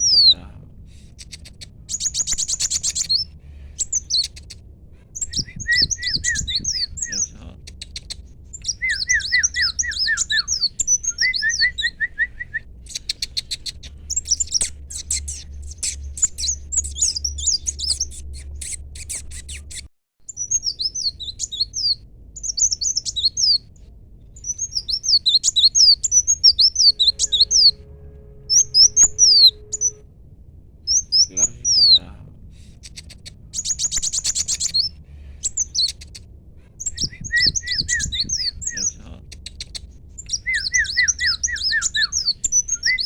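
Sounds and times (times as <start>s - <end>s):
sunbird singing high chirps: 0.0s - 0.4s, 1.2s - 4.6s, 5.2s - 23.7s, 24.4s - 27.8s, 28.4s - 30.0s, 30.9s - 32.1s, 32.8s - 36.2s, 36.8s - 43.0s.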